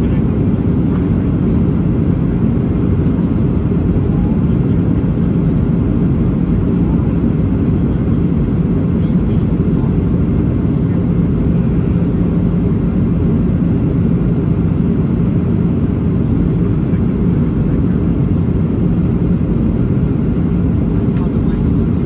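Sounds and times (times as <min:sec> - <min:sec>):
aircraft cabin rumble: 0:00.0 - 0:22.0
steady hum: 0:00.0 - 0:22.0.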